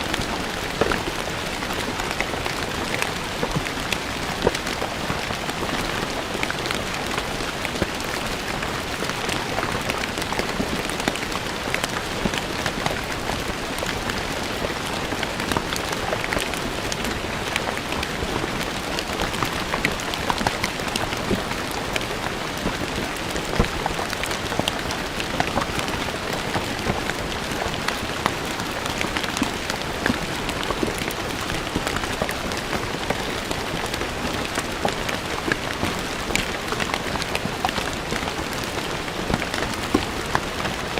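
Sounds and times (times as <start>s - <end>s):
rain on stone paving: 0.0s - 40.9s.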